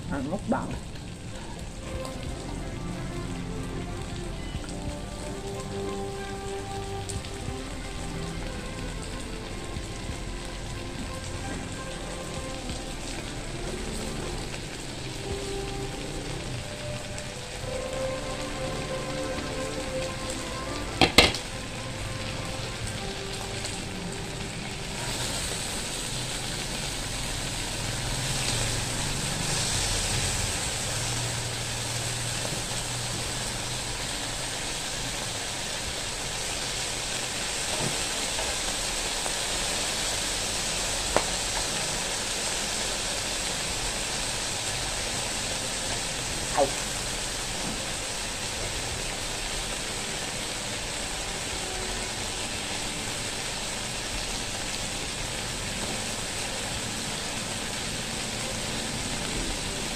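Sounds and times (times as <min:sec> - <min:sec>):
meat sizzling on a grill pan: 0:00.2 - 0:59.9.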